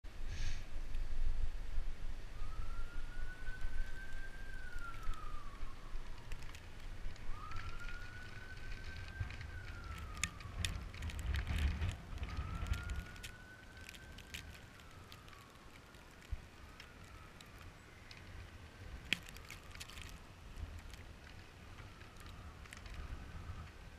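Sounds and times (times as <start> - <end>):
low rumble: 0.1 - 23.9
faint emergency vehicle siren wailing: 2.0 - 23.9.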